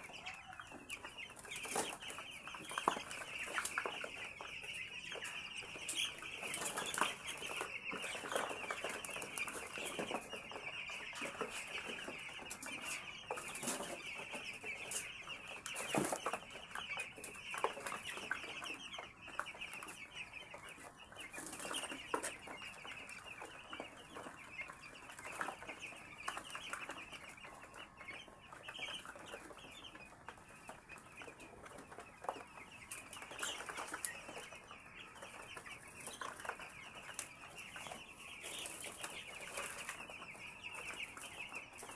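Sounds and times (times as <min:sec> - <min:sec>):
chicks peeping: 0:00.0 - 0:41.9.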